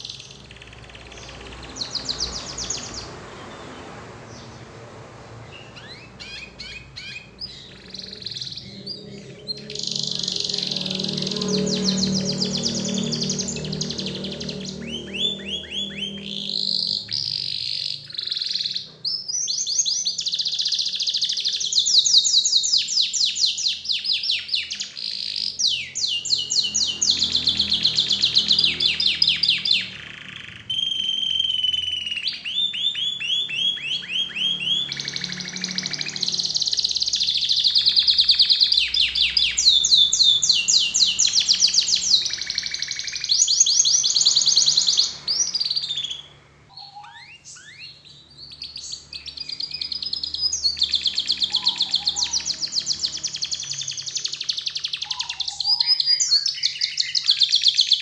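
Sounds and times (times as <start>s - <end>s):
canary singing fast trills: 0.0s - 58.0s.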